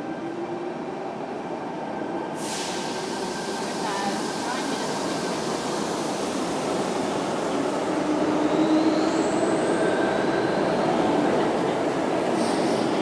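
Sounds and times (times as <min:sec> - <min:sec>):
underground train rumbling: 0:00.0 - 0:13.0.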